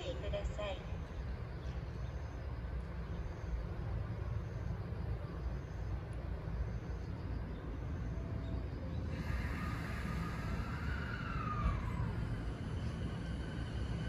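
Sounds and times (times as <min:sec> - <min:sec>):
electric train inverter whine: 0:00.0 - 0:14.0
steady low rumble: 0:00.0 - 0:14.0.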